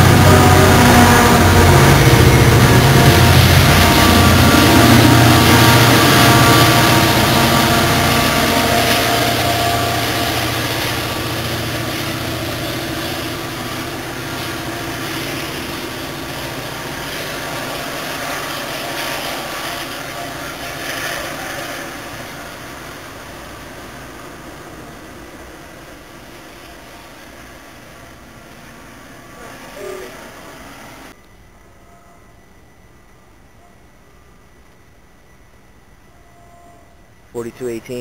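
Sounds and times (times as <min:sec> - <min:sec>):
diesel locomotive engine drone: 0:00.0 - 0:38.0
train rumble: 0:00.0 - 0:38.0.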